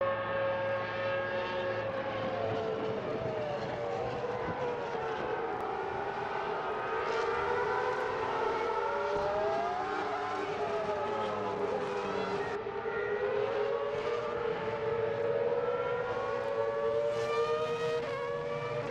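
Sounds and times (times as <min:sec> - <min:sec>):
racing car engines wailing: 0:00.0 - 0:18.9.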